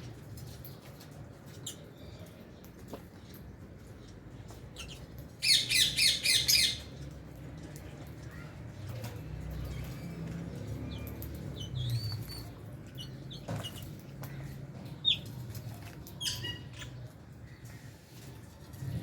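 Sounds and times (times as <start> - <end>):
lovebirds chirping and squeaking: 0.4 - 19.0.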